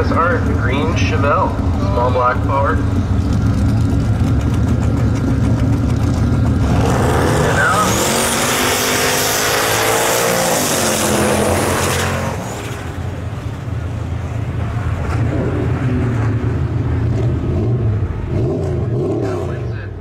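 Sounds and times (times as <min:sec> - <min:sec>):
truck engine accelerating hard: 0:00.0 - 0:20.0.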